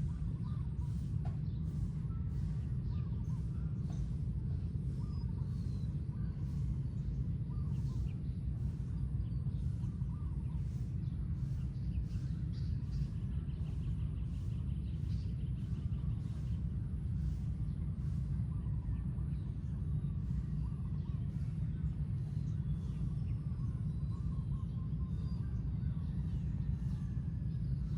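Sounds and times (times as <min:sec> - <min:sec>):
steady low rumble: 0:00.0 - 0:27.9.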